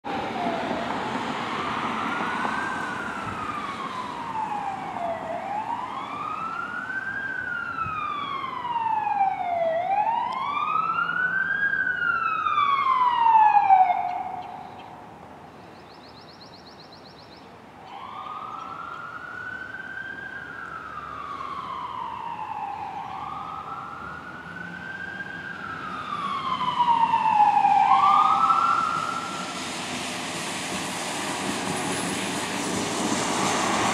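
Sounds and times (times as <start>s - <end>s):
fire engine siren wailing: 0.0s - 15.0s, 17.8s - 33.9s.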